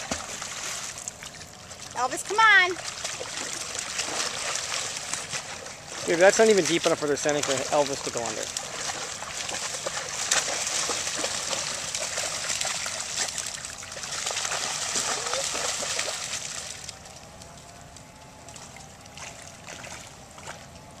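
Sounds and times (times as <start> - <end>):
dogs splashing in water: 0.0 - 17.6, 18.5 - 20.7
running river water: 0.0 - 21.0.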